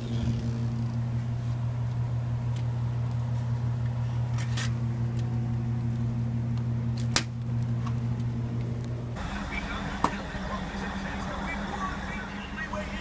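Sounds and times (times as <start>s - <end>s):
drink cooler humming: 0.0s - 13.0s.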